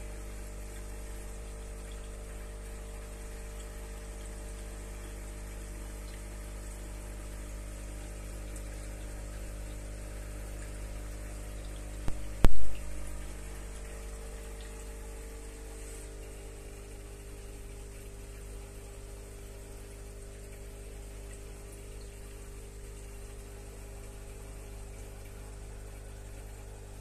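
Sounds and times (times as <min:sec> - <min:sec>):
aquarium filter pump humming: 0:00.0 - 0:27.0
water moving in tank: 0:00.0 - 0:27.0.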